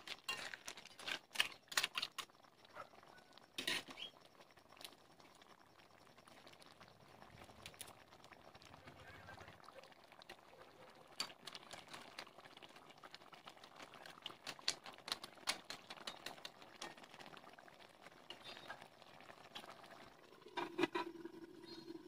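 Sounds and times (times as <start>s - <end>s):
curry bubbling with pops: 0.0s - 22.0s.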